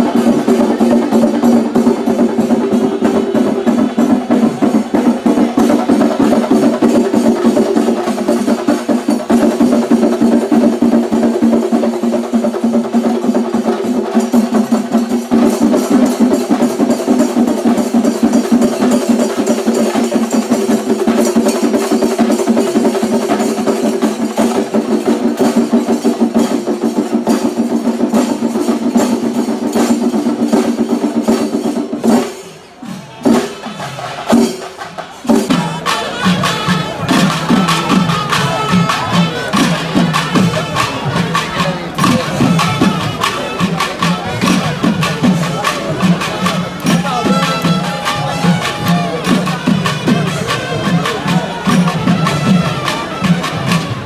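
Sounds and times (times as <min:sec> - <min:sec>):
fast loud drumming: 0:00.0 - 0:54.0.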